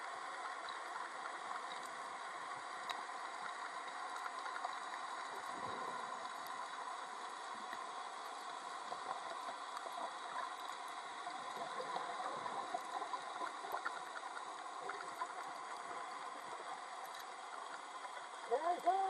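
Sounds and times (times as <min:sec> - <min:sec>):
underwater hiss with crackling: 0:00.0 - 0:19.0.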